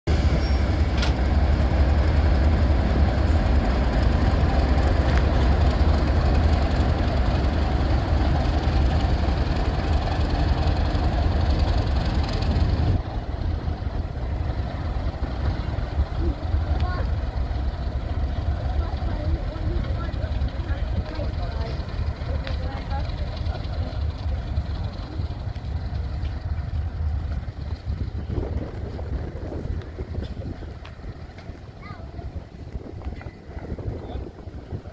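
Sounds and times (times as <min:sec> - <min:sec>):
diesel locomotive engine rumbling: 0:00.0 - 0:34.9.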